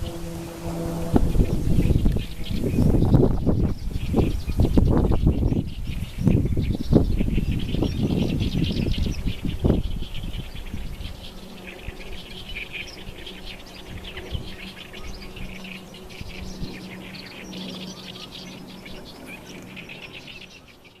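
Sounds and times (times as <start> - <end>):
wind gusting through reeds: 0.0 - 20.2
small birds chirping: 0.0 - 21.0.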